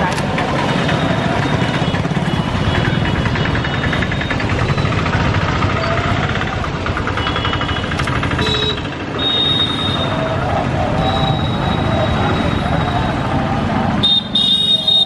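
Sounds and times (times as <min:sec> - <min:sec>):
small engines knocking: 0:00.0 - 0:15.0.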